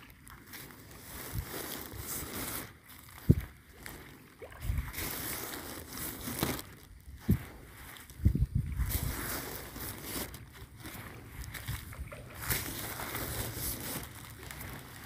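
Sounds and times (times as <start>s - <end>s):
footsteps on grass: 0.0s - 15.0s
water sloshing: 0.0s - 15.0s.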